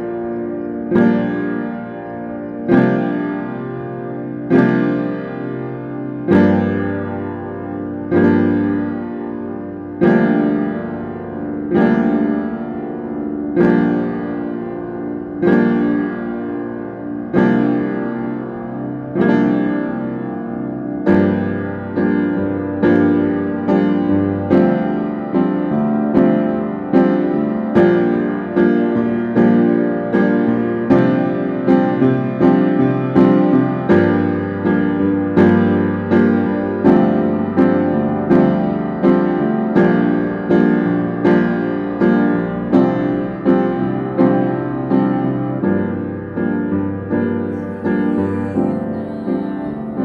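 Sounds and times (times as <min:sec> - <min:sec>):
piano playing slow chords: 0:00.0 - 0:50.0.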